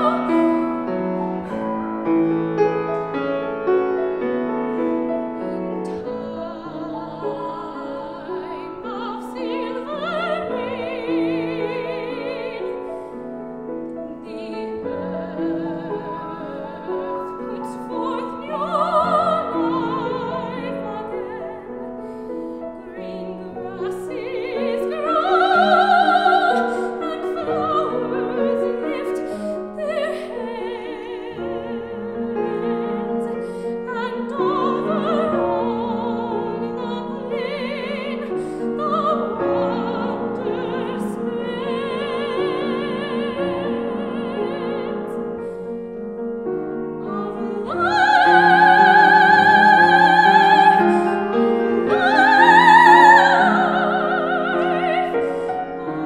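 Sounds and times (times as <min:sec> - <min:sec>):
soprano singing with vibrato: 0:00.0 - 0:02.1, 0:04.8 - 0:13.2, 0:14.0 - 0:45.9, 0:46.6 - 0:56.0
grand piano: 0:00.0 - 0:56.0.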